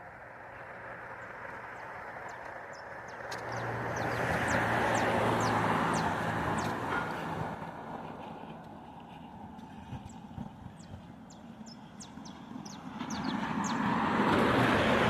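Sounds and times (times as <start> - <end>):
motor vehicle passing: 0.0 - 15.0
small birds chirping: 0.5 - 7.4, 8.0 - 13.9.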